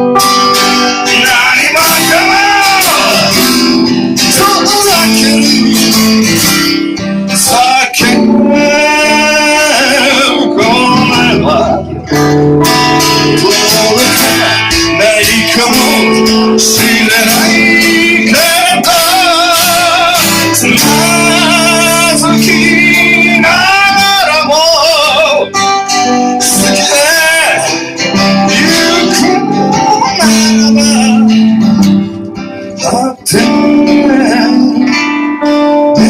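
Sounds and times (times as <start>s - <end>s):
man singing: 0.0s - 31.9s, 32.6s - 36.0s
acoustic guitar strumming: 0.0s - 36.0s.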